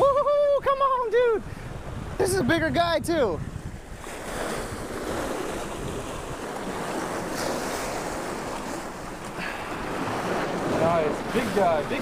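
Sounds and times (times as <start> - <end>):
wind rumbling on microphone: 0.0 - 12.0
surf breaking against boulders: 2.0 - 12.0.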